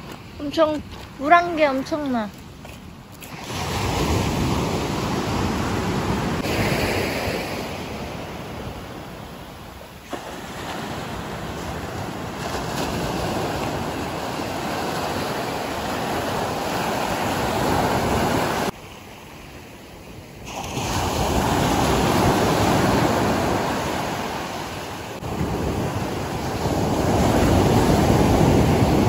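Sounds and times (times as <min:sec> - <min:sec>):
ocean surf breaking: 0:03.2 - 0:29.0.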